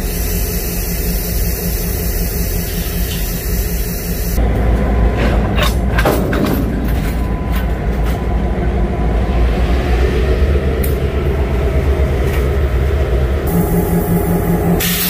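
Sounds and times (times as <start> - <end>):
freight train rumbling by: 0.0 - 15.0.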